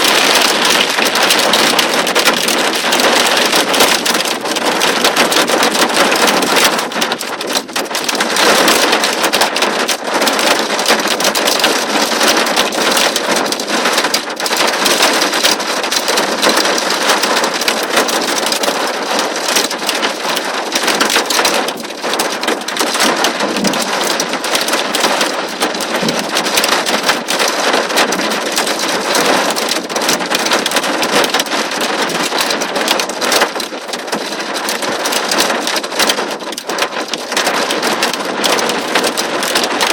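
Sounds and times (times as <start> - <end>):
torrential rain: 0.0 - 39.9.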